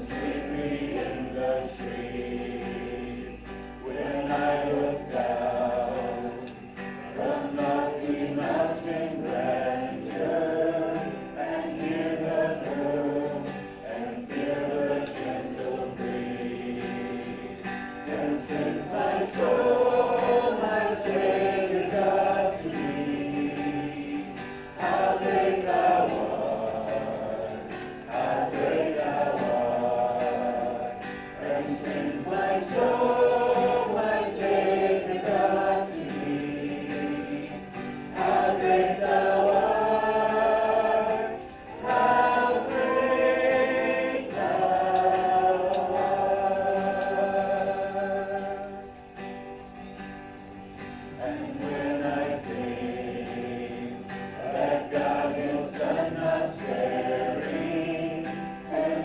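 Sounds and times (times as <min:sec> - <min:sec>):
congregation singing a hymn: 0:00.0 - 0:59.0.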